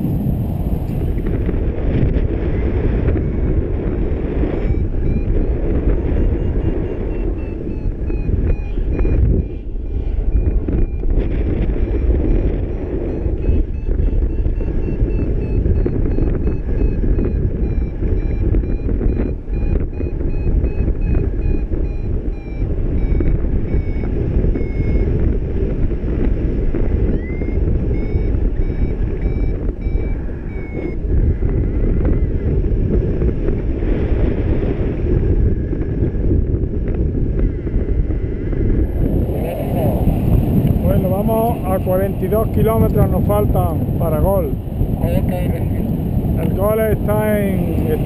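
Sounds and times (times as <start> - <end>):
wind rushing over microphone: 0.0 - 48.0
variometer beeping: 1.1 - 48.0.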